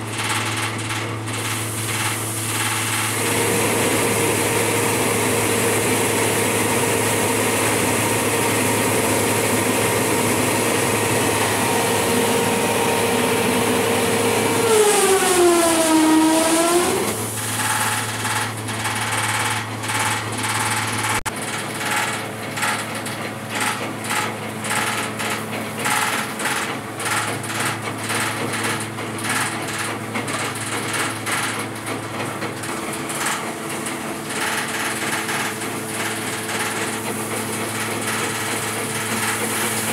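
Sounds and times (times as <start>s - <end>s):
rice sheller motor drone: 0.1s - 39.9s.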